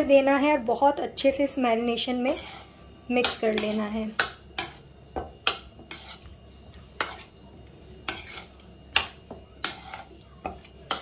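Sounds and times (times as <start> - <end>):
metal spoon clinking and scraping bowl: 2.2 - 11.0.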